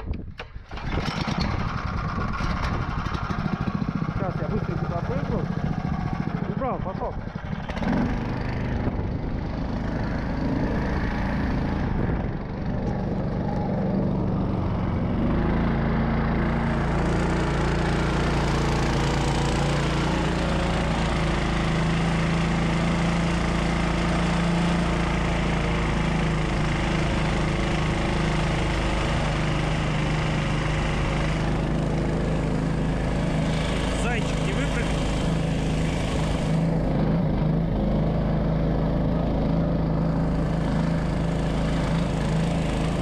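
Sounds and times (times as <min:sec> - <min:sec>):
snow vehicle engine under load: 0:00.0 - 0:43.0.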